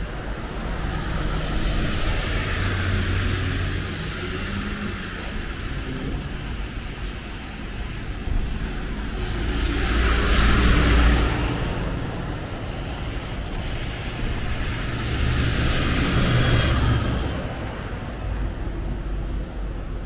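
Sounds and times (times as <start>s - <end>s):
tyres hissing on wet road: 0.0s - 19.7s.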